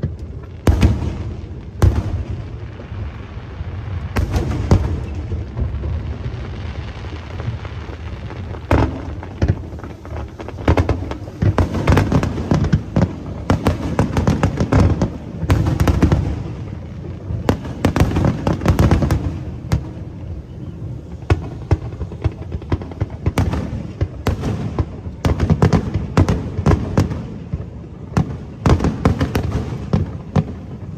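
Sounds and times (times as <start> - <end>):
fireworks booms and crackling: 0.0 - 30.9
sharp firework cracks: 0.0 - 30.9.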